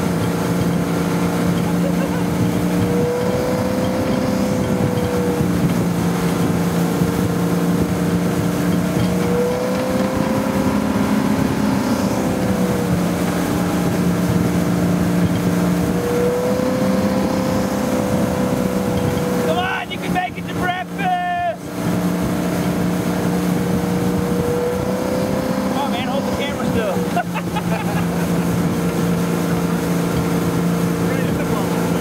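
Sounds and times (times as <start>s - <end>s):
boat engine running: 0.0s - 32.0s
water rushing: 0.0s - 32.0s
wind: 0.0s - 32.0s.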